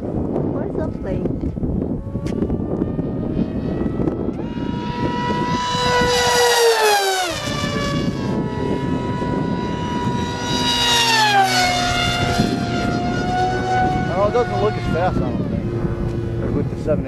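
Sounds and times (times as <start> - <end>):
electric model jet whining past: 0.1 - 17.0.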